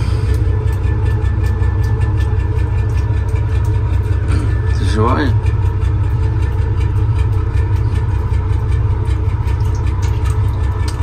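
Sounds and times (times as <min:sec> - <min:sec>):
boat engine idling: 0:00.0 - 0:11.0
water sloshing in a tank: 0:00.0 - 0:11.0.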